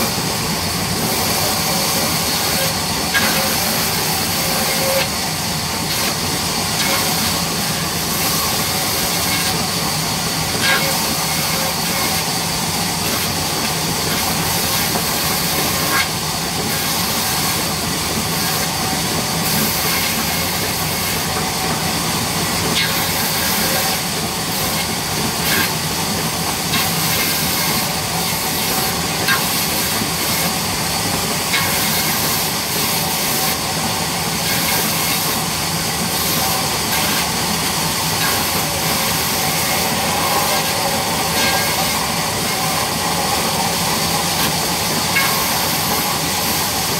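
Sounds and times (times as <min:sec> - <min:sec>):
band saw cutting wood: 0:00.0 - 0:46.9.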